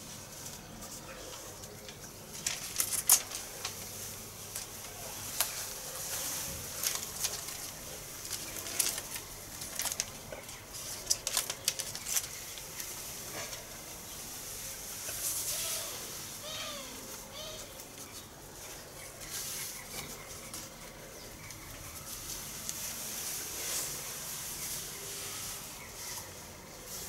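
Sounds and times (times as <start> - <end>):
paper rustling and crackling: 0.0 - 27.0.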